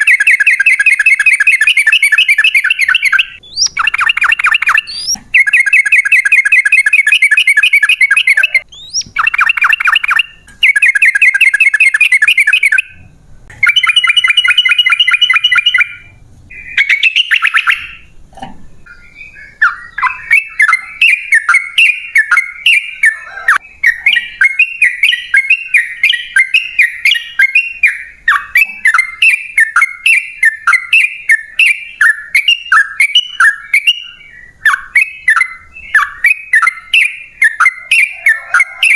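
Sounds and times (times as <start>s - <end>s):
bird chattering notes: 0.0s - 18.1s, 18.8s - 34.0s.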